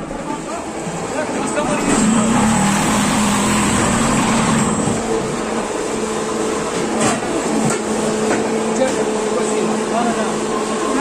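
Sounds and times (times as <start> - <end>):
machinery humming and rushing: 0.0 - 11.0.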